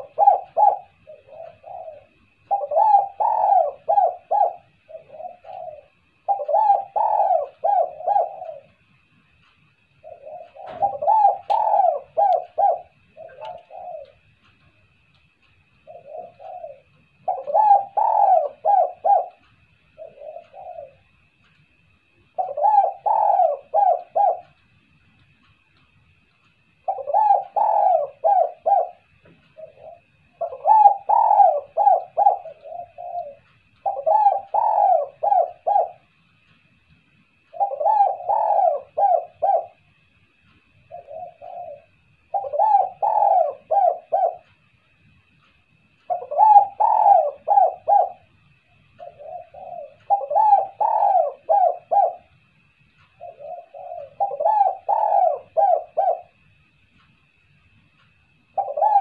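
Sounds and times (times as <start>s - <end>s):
dove cooing: 0.0s - 14.8s, 15.7s - 24.6s, 26.8s - 36.2s, 37.3s - 44.7s, 45.9s - 56.5s, 58.5s - 59.0s.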